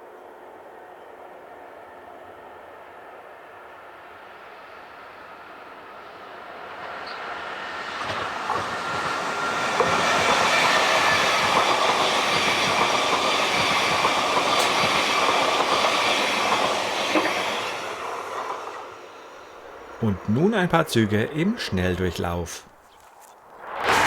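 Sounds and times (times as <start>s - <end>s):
train passing: 0.0s - 22.8s.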